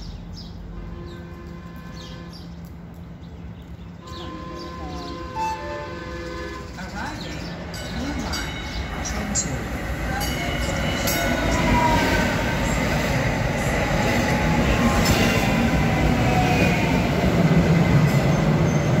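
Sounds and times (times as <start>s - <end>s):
light rail train running: 0.0s - 19.0s.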